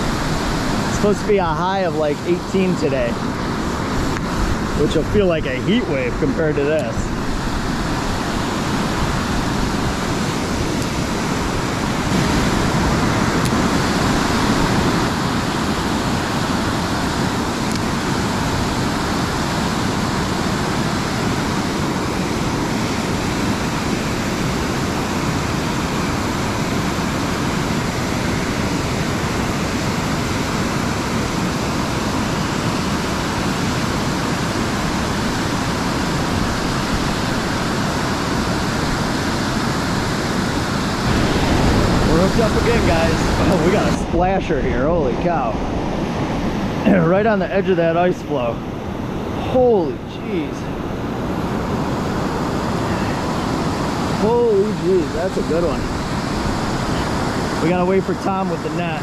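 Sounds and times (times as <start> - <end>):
fast-flowing river water: 0.0 - 59.0.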